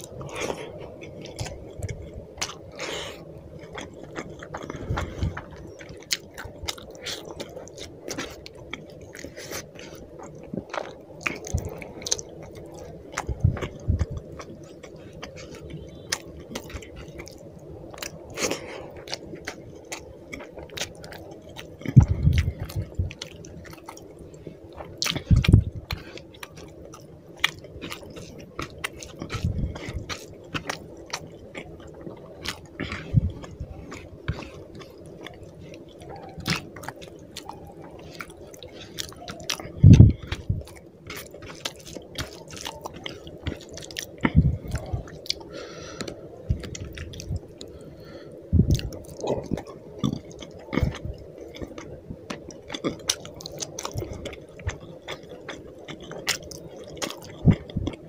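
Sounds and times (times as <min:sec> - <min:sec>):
chewing and mouth clicks: 0:00.0 - 0:58.0
steady low hum: 0:00.0 - 0:58.0.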